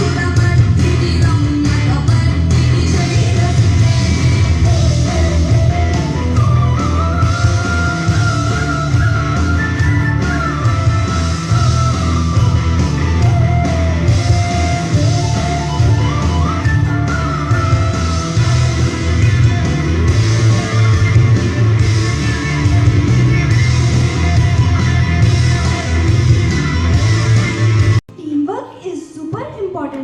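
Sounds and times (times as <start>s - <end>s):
rock instrumental music: 0.0s - 28.1s.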